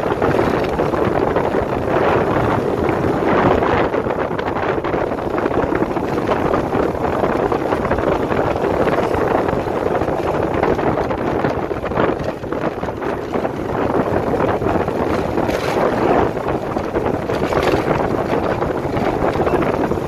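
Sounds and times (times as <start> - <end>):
motorbike engine running: 0.0 - 20.0
wind buffeting microphone: 0.0 - 20.0.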